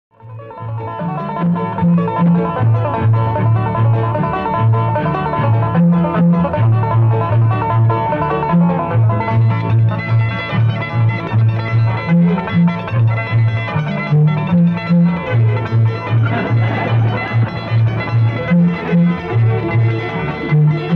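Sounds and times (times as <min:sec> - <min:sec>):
acoustic guitars picking: 0:00.2 - 0:20.9
bouncing bass line: 0:00.2 - 0:20.9.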